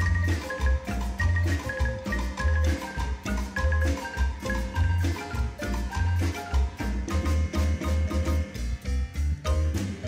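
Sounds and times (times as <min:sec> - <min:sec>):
melody of struck notes: 0:00.0 - 0:10.0.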